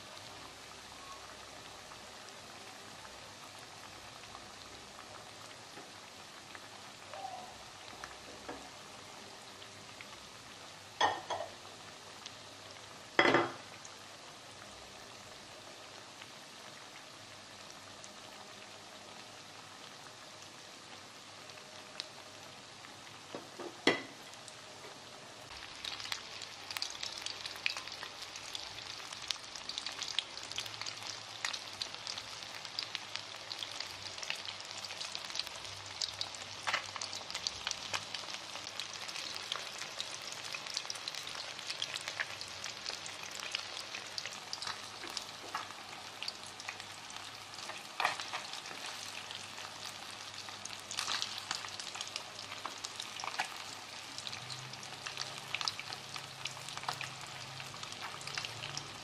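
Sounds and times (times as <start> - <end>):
fish deep-frying in oil: 0.0 - 59.0.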